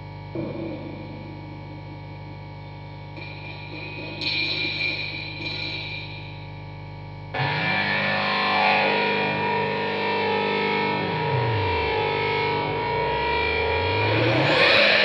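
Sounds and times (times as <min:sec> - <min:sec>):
loud distorted drone: 0:00.0 - 0:06.7, 0:07.3 - 0:15.0
low electrical hum: 0:00.0 - 0:14.1.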